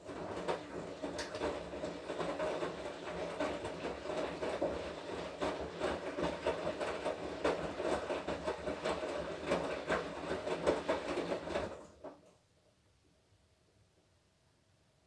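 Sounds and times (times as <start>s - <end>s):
laundry clattering in drum: 0.0s - 12.2s
washing machine running: 0.0s - 12.3s.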